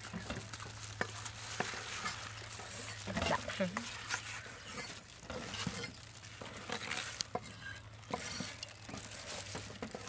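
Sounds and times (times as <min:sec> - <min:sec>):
gloved hands handling wet tripe: 0:00.0 - 0:10.0.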